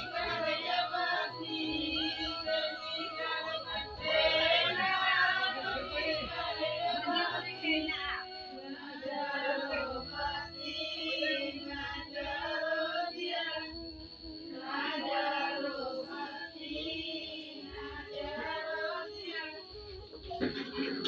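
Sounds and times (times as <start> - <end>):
women singing folk song: 0.0 - 21.0.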